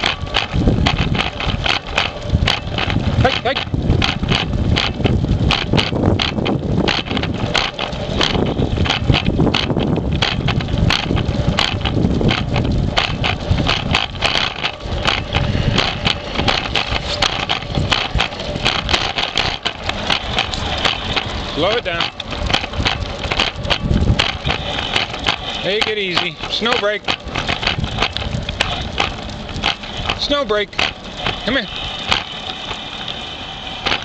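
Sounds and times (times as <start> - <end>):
rapid rattle of clicks: 0.0 - 34.0
scooter rolling on concrete: 0.0 - 34.0.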